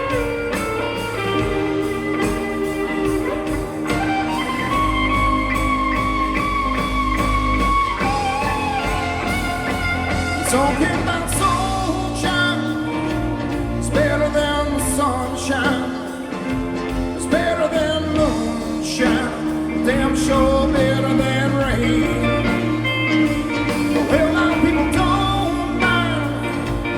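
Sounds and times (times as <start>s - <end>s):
blues-rock band playing: 0.0s - 26.9s.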